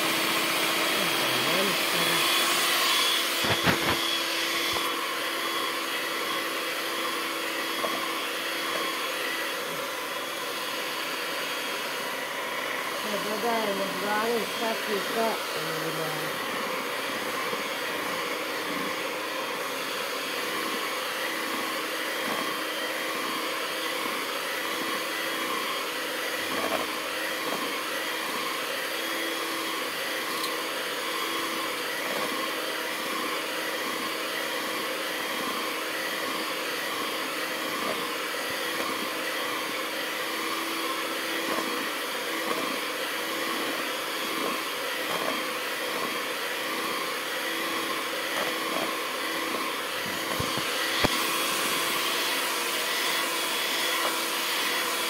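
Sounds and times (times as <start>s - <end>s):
electric hand mixer whisking batter: 0.0s - 55.0s.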